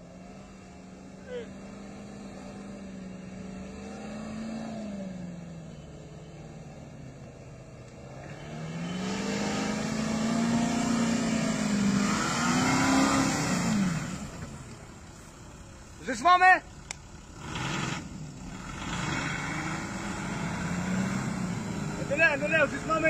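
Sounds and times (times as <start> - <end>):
suv engine revving: 0.0 - 23.0.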